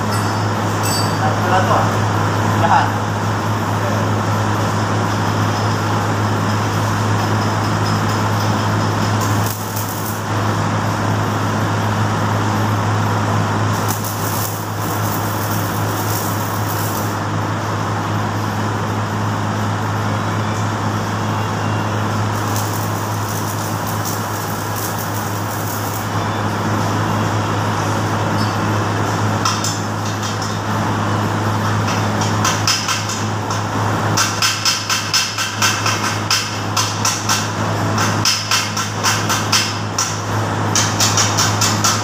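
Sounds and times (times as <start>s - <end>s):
steady low hum: 0.0s - 34.2s
welding arc crackling and sizzling: 2.4s - 18.6s, 20.6s - 42.0s.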